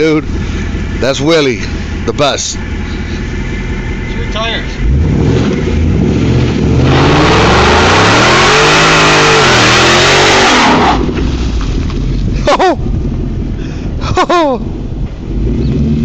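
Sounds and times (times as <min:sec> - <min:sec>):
spinning tyres hissing: 0:00.0 - 0:14.0
car engine revving: 0:00.0 - 0:16.0.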